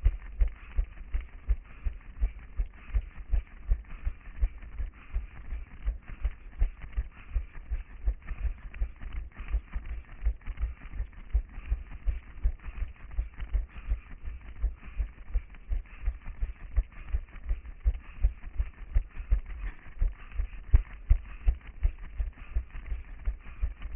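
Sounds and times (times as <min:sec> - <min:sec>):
running footsteps on pavement: 0:00.0 - 0:23.9.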